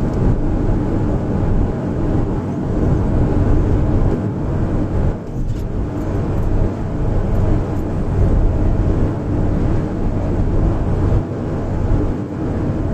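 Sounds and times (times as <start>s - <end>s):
van engine and road noise: 0.0s - 12.9s.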